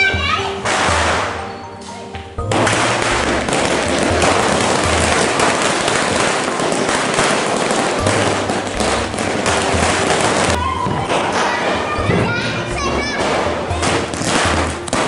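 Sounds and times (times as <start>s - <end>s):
firecrackers crackling: 0.0s - 1.5s, 2.5s - 15.0s.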